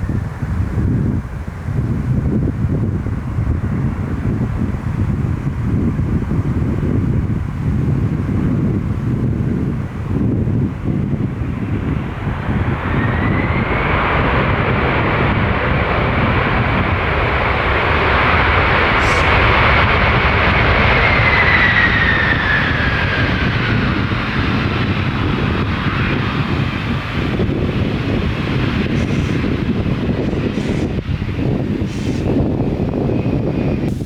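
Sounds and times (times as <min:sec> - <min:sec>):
jet engine whine: 0:00.0 - 0:34.0
low rumble: 0:00.0 - 0:34.0
wind buffeting microphone: 0:00.0 - 0:34.0.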